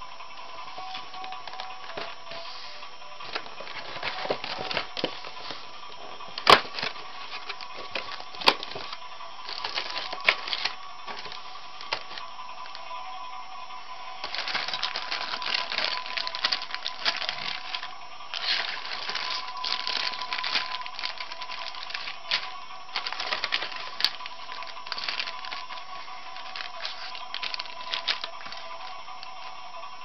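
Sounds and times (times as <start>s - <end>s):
plastic wrapper bags crinkling: 0.5s - 2.5s, 3.2s - 13.0s, 14.1s - 29.6s.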